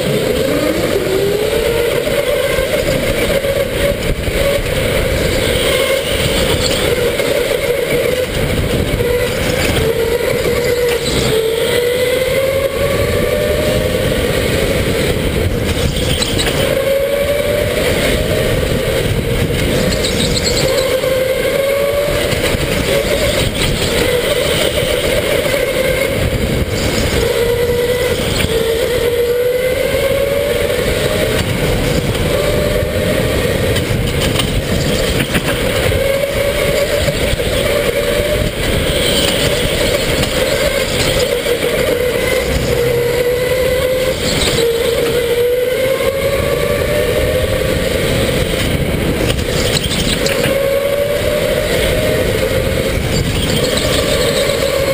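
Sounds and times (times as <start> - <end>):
electric go-kart motor whining: 0.0 - 54.9
wind noise: 0.0 - 54.9.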